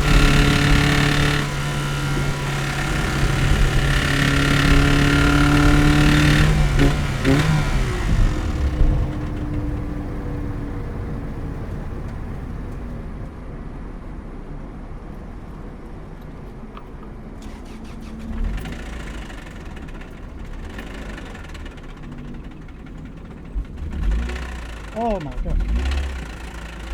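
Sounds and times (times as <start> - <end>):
sharp clatters: 0.0 - 13.1, 17.4 - 26.9
car engine pulling hard: 0.0 - 13.4, 17.4 - 26.9
road noise: 0.0 - 26.9.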